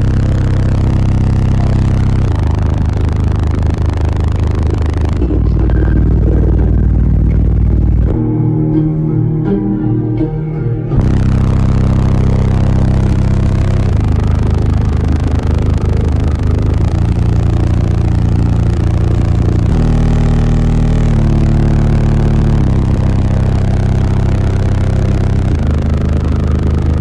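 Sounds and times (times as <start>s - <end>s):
loud subwoofer bass notes: 0.0s - 27.0s.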